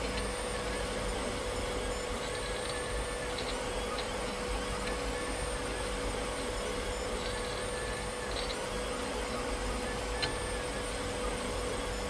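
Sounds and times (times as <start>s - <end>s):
printer mechanical hum and whine: 0.0s - 12.0s.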